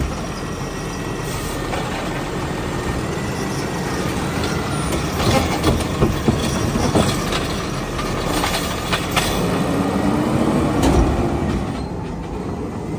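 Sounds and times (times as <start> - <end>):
truck engine and hydraulics: 0.0 - 12.9.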